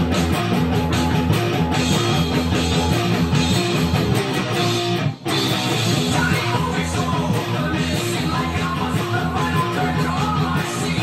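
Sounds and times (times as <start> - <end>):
heavy metal electric guitar riff: 0.0 - 11.0.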